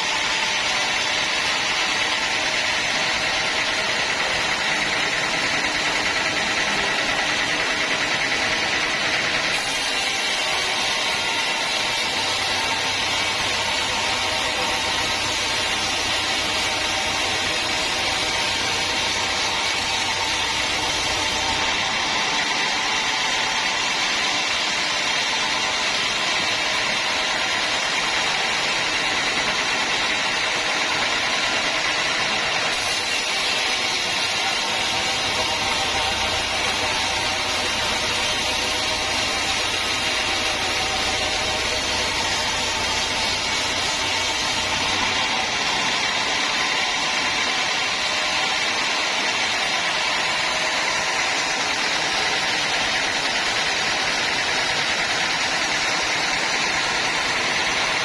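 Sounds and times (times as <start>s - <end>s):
sawmill machinery drone and whine: 0.0s - 58.0s.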